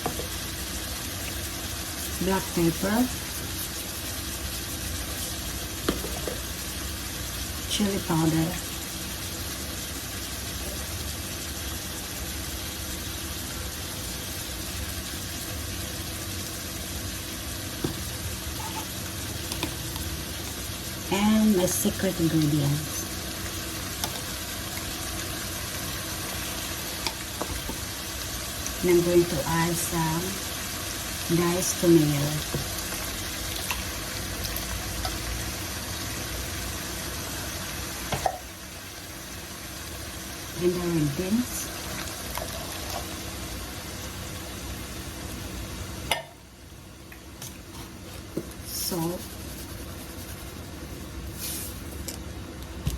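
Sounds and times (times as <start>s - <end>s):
low steady hum: 0.0s - 52.9s
meat and onion sizzling in pot: 0.0s - 52.9s.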